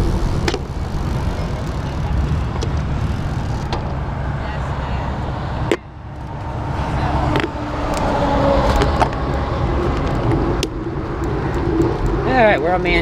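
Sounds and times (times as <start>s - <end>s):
wind noise on microphone: 0.0s - 4.4s, 5.1s - 13.0s
passing cars: 0.0s - 13.0s.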